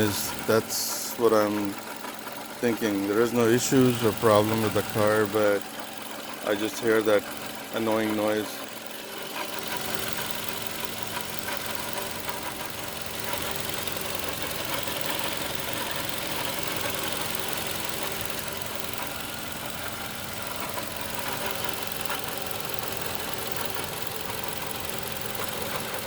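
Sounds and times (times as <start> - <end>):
car engine running: 0.0 - 26.0
rattling in engine bay: 0.0 - 26.0.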